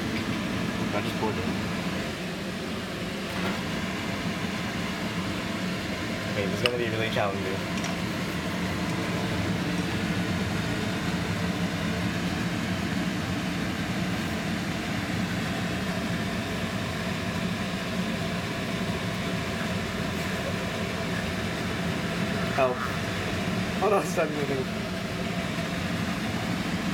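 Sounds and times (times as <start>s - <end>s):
range hood fan humming: 0.0s - 26.9s.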